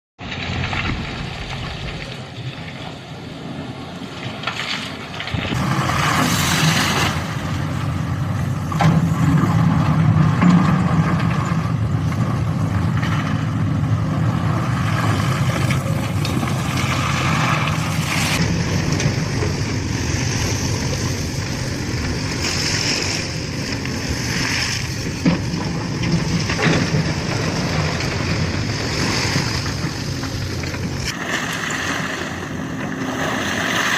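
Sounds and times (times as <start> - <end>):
diesel engine droning: 0.2 - 33.9.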